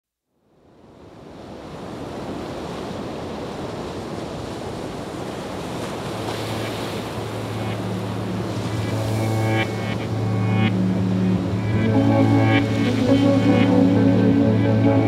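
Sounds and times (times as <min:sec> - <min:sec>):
surf-like rush of noise: 0:00.8 - 0:15.0.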